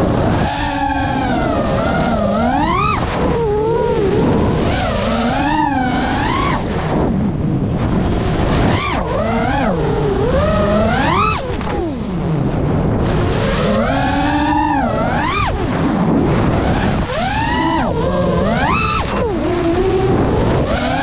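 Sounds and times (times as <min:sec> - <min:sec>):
drone motors whining: 0:00.0 - 0:21.0
wind rushing on microphone: 0:00.0 - 0:21.0.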